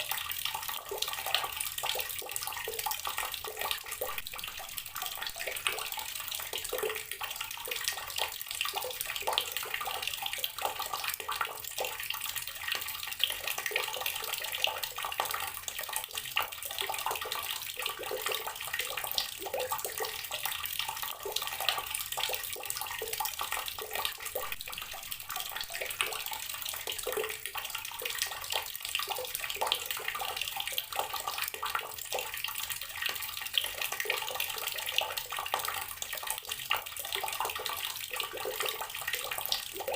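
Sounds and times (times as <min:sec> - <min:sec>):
water splashing from garden tap: 0:00.0 - 0:39.9.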